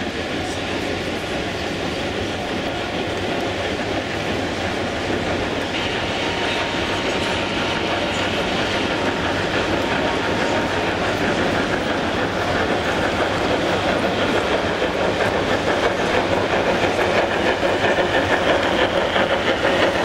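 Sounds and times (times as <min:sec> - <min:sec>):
model train wheels clattering: 0:00.0 - 0:20.0.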